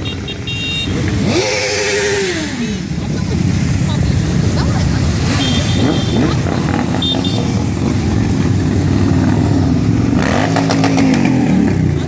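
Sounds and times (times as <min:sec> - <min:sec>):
motorcycle engines running: 0:00.0 - 0:12.0
motorcycle revving: 0:00.0 - 0:12.0.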